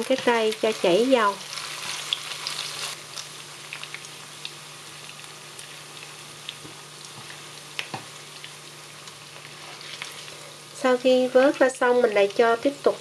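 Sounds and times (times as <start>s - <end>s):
pork sizzling in oil: 0.0s - 13.0s.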